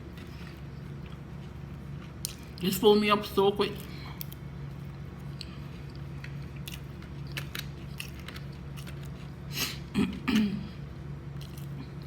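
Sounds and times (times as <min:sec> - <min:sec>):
person chewing food: 0:00.0 - 0:02.6, 0:03.8 - 0:12.0
steady low hum: 0:00.0 - 0:12.0.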